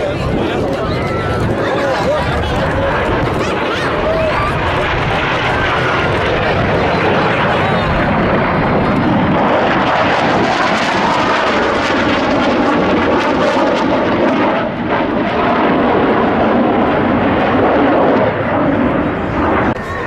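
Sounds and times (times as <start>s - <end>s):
jet noise: 0.0s - 20.0s.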